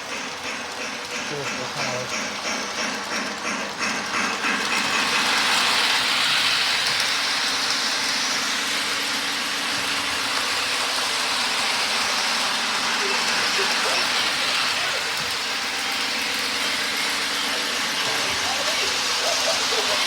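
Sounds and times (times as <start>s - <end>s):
model train motor whirring: 0.0s - 20.0s.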